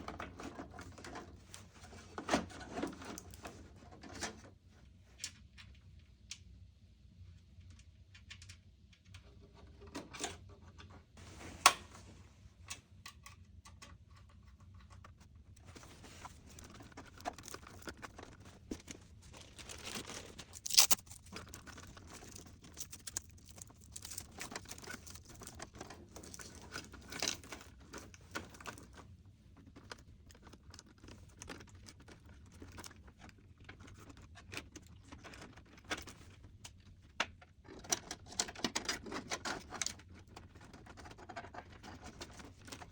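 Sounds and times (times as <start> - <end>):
rustling and crinkling: 0.0 - 5.7, 9.6 - 13.0, 13.7 - 42.9.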